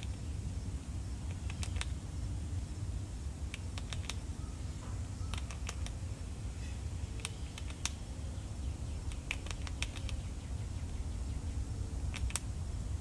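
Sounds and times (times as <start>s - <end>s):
squirrel gnawing corn kernels: 0.0s - 12.8s.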